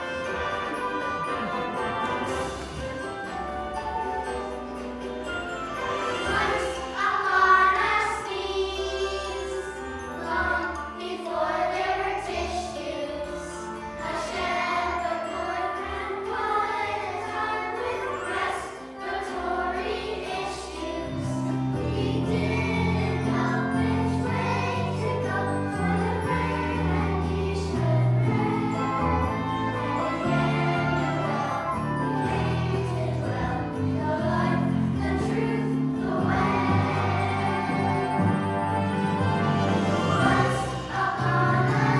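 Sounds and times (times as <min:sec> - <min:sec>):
choir singing: 0:00.0 - 0:41.9
instrumental accompaniment: 0:00.0 - 0:41.9.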